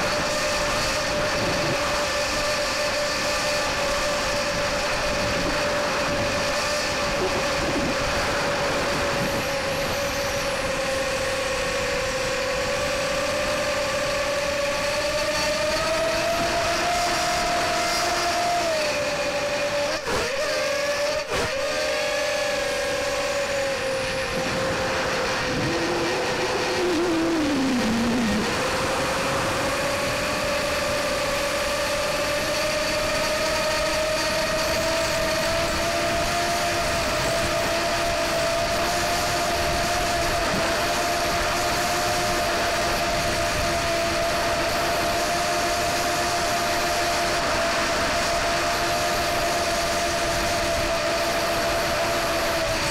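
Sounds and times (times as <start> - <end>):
small electric motor and propeller: 0.0 - 52.9.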